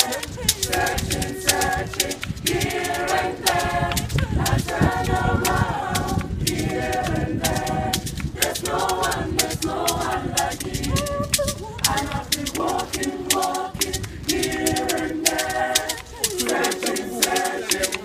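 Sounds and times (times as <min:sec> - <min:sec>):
gospel choir singing a cappella: 0:00.0 - 0:18.0
sharp clicks: 0:00.0 - 0:18.0.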